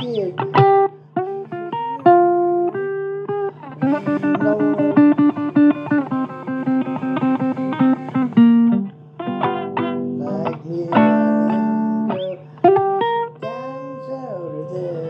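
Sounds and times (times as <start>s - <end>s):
blues guitar playing: 0.0s - 15.0s.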